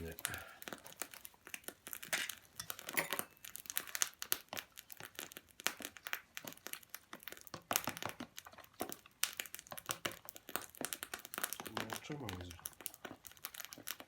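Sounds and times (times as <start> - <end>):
food frying crackling: 0.0 - 14.0.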